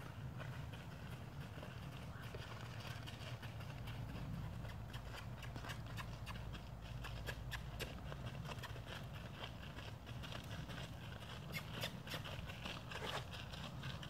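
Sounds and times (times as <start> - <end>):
hooves crunching on gravel: 0.0 - 14.0.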